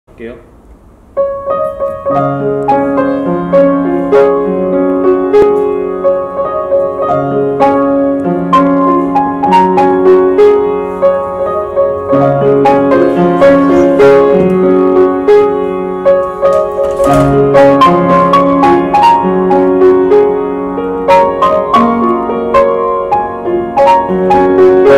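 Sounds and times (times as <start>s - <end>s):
piano chords and melody: 0.9s - 24.9s.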